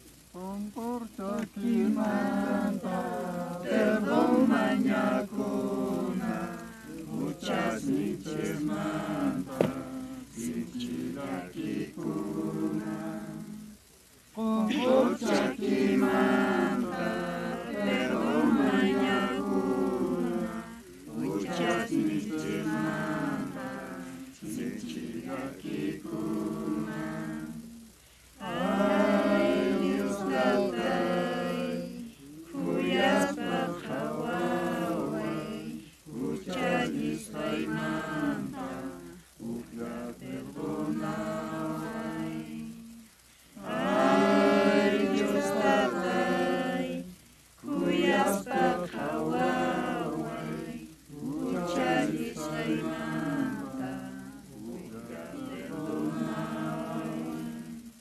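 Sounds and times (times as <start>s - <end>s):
people singing a hymn unaccompanied: 0.0s - 58.0s.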